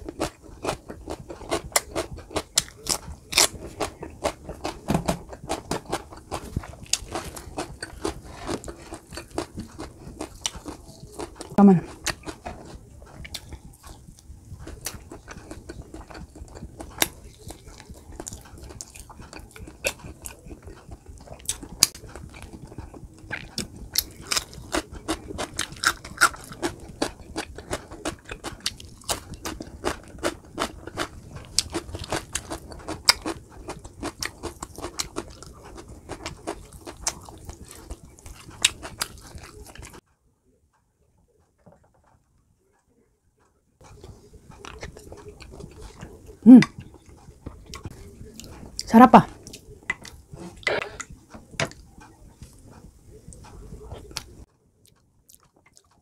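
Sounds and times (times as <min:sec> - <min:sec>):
person chewing and smacking: 0:00.0 - 0:40.0, 0:43.8 - 0:56.0.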